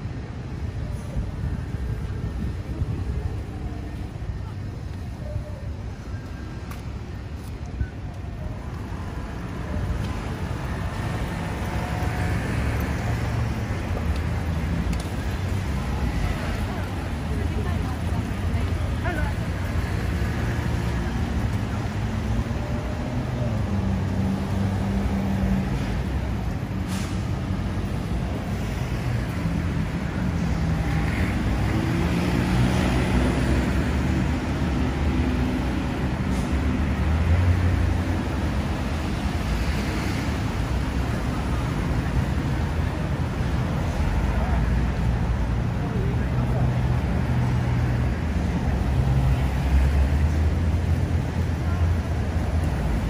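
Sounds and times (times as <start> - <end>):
city traffic rumble: 0.0 - 53.0
road noise: 0.0 - 53.0
vehicle engines running: 0.0 - 53.0.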